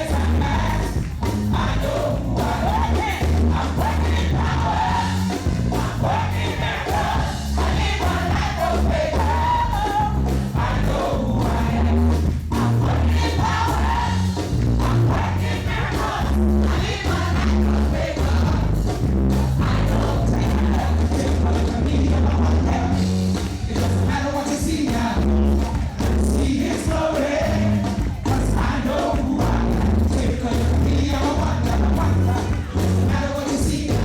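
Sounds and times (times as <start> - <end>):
band playing gospel music: 0.0 - 34.0
group of singers: 0.0 - 34.0
heavy bass line: 0.0 - 34.0.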